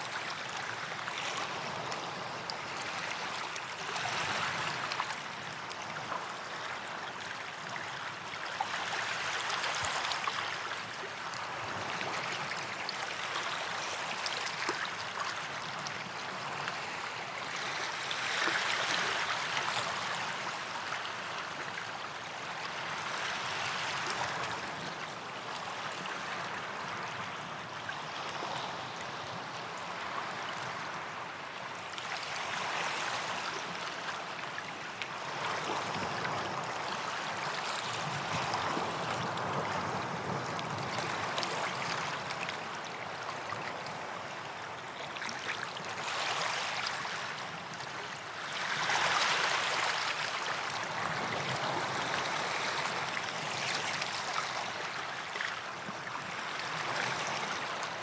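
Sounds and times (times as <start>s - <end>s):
small waves washing onto sand: 0.0s - 58.0s.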